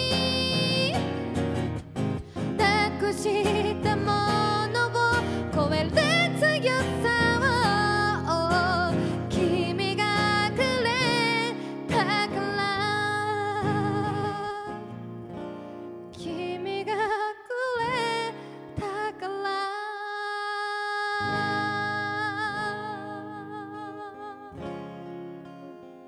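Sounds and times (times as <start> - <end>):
woman singing: 0.0 - 1.4, 2.2 - 15.0, 16.1 - 25.0
acoustic guitar: 0.0 - 26.0.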